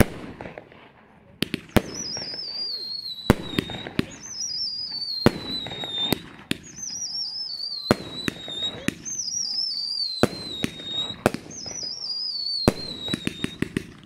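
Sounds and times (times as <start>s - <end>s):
fireworks bangs: 0.0s - 14.0s
firework whistle falling in pitch: 1.8s - 13.7s.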